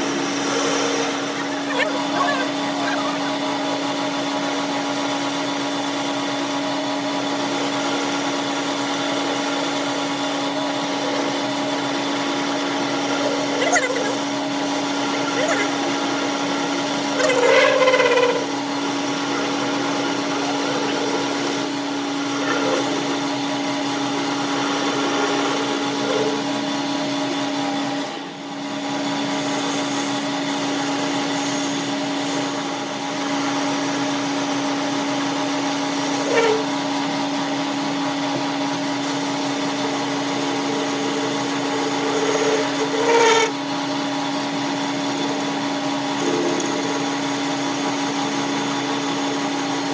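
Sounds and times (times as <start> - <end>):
power tool motor humming: 0.0 - 49.9.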